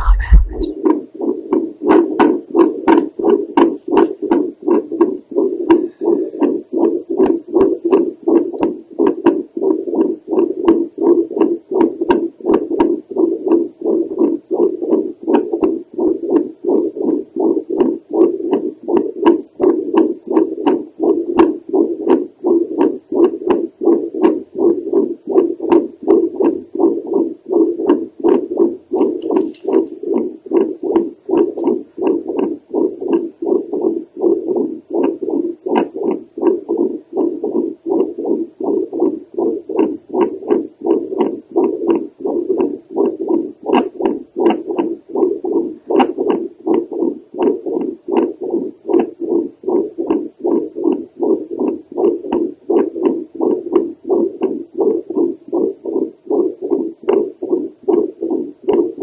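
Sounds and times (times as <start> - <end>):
doppler heartbeat whooshes: 0.0 - 59.0.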